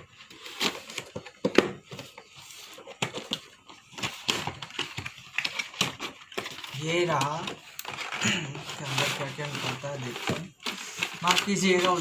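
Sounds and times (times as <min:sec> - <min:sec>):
packaging clicks and rustles: 0:00.0 - 0:12.0.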